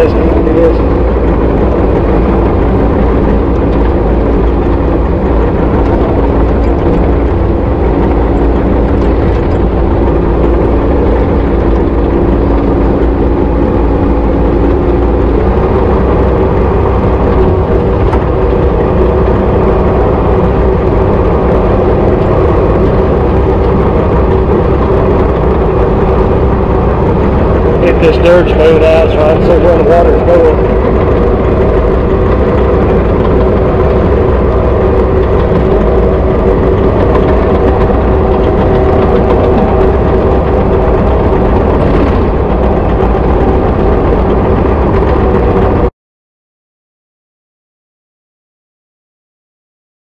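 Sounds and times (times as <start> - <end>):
excavator engine and hydraulics hum: 0.0 - 45.9.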